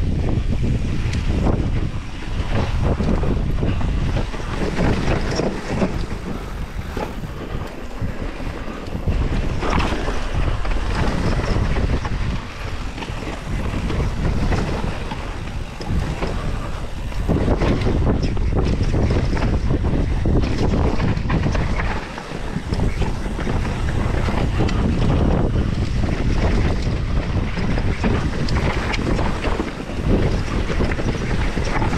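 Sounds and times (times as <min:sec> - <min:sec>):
bike knocks and rattles: 0:00.0 - 0:31.9
constant rumble: 0:00.0 - 0:31.9
wind buffeting microphone: 0:00.0 - 0:31.9.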